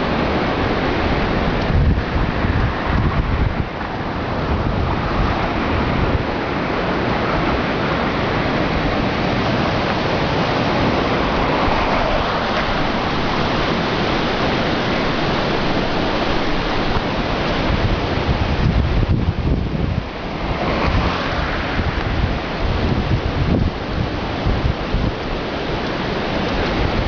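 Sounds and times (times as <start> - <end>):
river water rushing over weir: 0.0 - 27.0.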